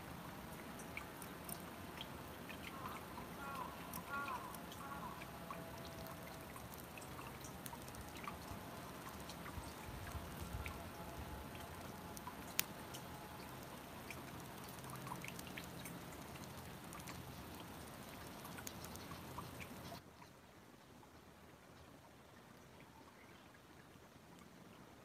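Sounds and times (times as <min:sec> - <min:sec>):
water trickling and dripping: 0:00.0 - 0:25.0.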